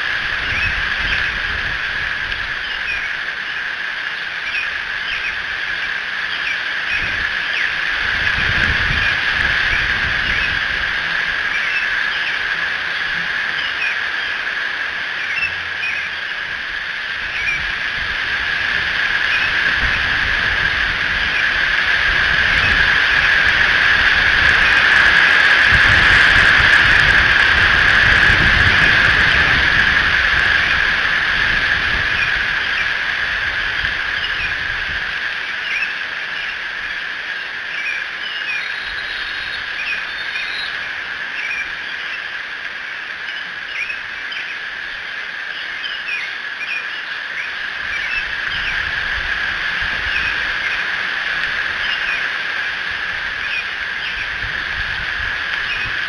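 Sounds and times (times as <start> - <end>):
high-pitched hiss: 0.0 - 56.0
small birds chirping: 0.0 - 56.0.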